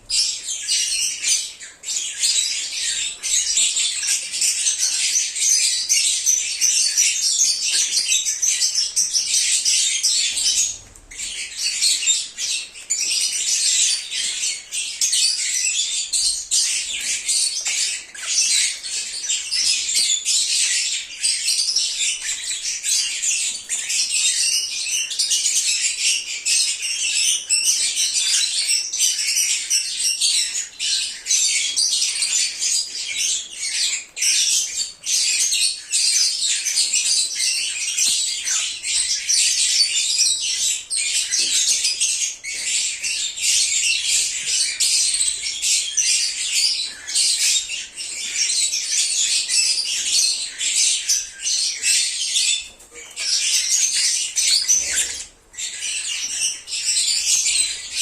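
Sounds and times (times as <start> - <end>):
lovebirds chirping and squawking: 0.0 - 58.0.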